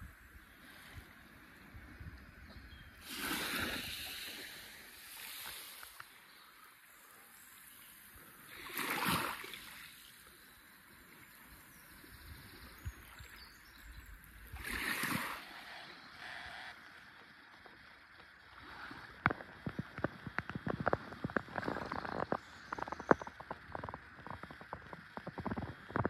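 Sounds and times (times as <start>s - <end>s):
small waves lapping on beach: 0.0s - 26.0s.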